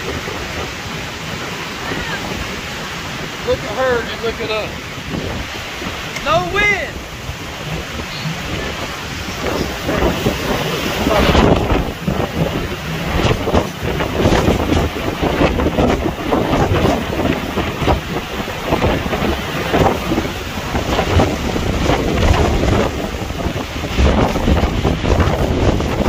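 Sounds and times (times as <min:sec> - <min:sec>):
storm wind gusting on microphone: 0:00.0 - 0:26.0.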